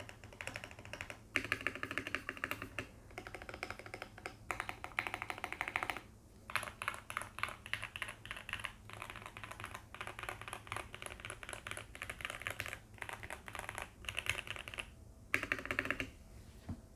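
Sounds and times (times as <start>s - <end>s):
fast typing on mechanical keyboard: 0.0s - 16.1s.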